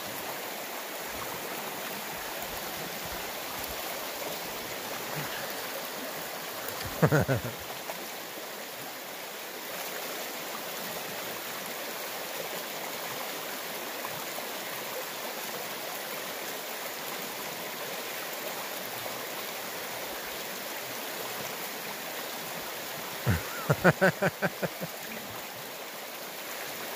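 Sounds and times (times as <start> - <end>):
river flowing over rocks: 0.0 - 26.9.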